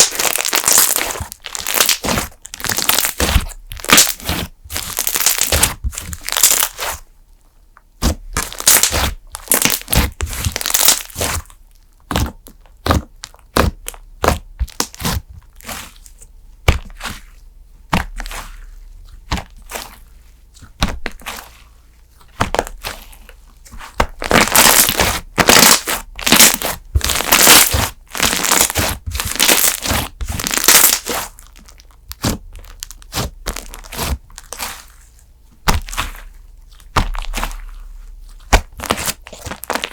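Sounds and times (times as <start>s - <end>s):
slime clicking and crackling: 0.0s - 7.0s, 7.9s - 17.2s, 22.2s - 39.9s.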